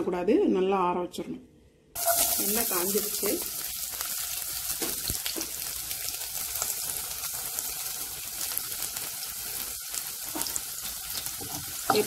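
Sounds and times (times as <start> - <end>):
garlic sizzling in hot oil: 2.0 - 12.0.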